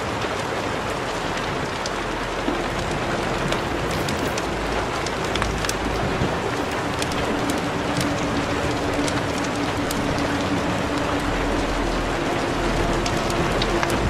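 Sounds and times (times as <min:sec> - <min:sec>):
steady rain: 0:00.0 - 0:14.0
drop-like ticks: 0:01.4 - 0:14.0.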